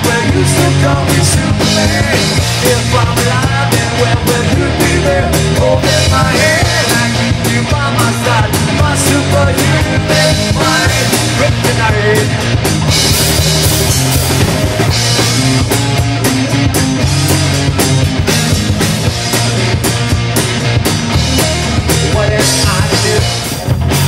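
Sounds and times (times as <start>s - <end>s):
drum kit and bass: 0.0s - 24.0s
electric guitars: 0.0s - 24.0s.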